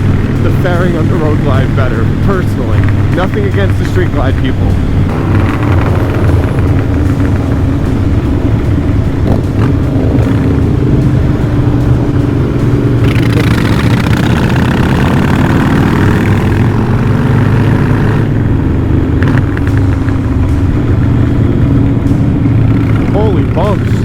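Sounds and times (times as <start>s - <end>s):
loud rushing noise: 0.0s - 24.0s
motorcycle engines running: 0.0s - 24.0s.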